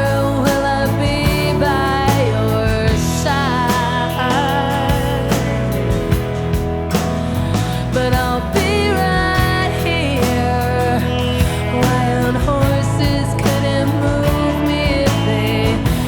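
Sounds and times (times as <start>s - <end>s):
guitar accompaniment: 0.0s - 16.0s
person singing: 0.0s - 16.0s.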